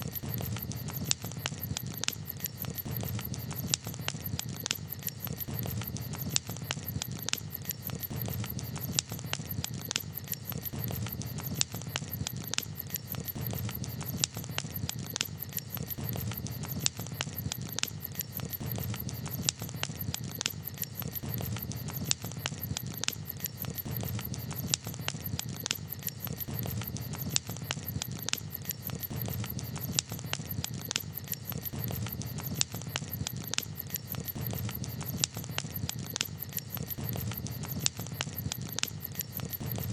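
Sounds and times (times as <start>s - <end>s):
campfire crackling: 0.0s - 39.9s
low fire rumble: 0.0s - 39.9s.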